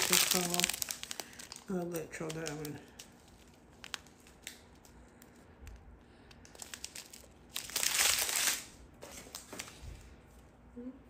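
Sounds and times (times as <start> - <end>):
plastic bags crinkling: 0.0 - 10.1.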